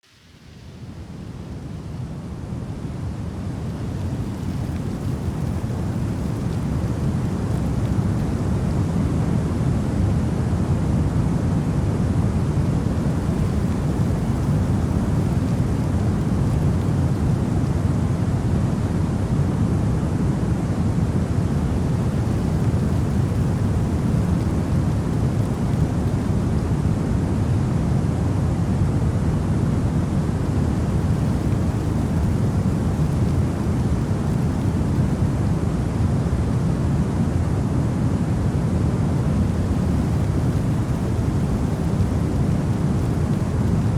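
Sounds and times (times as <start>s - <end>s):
deep white noise hiss: 0.0s - 43.9s.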